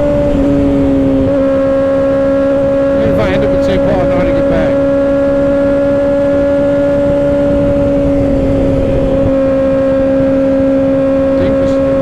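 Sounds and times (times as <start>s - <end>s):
motorcycle engine cruising: 0.0s - 12.0s
wind rushing over microphone: 0.0s - 12.0s.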